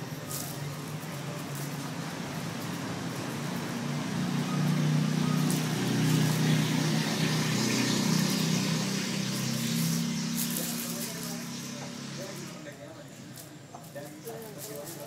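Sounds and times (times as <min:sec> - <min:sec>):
engine running steadily: 0:00.0 - 0:12.8.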